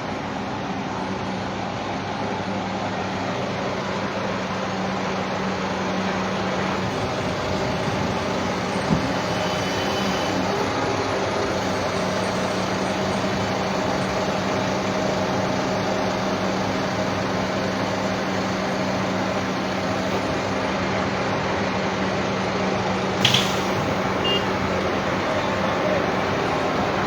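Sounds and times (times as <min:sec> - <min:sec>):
heavy machine engine droning: 0:00.0 - 0:27.0.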